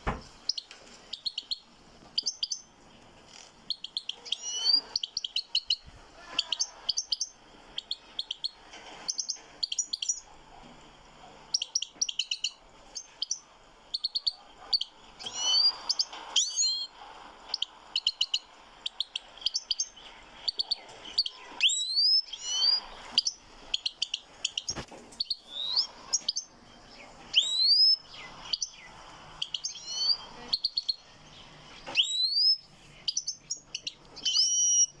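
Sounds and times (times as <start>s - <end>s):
goldfinch singing: 0.4s - 2.7s, 3.3s - 10.2s, 11.6s - 16.9s, 17.5s - 35.0s.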